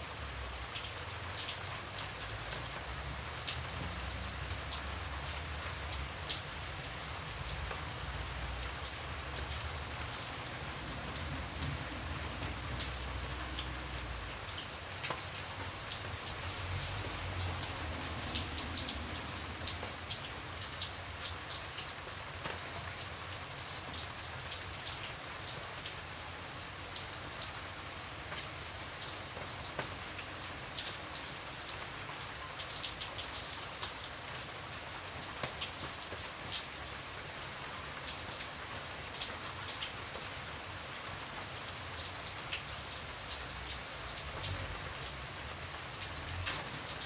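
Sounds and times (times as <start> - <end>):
raindrops ticking on a surface: 0.0 - 47.0
light rain hissing: 6.8 - 47.0.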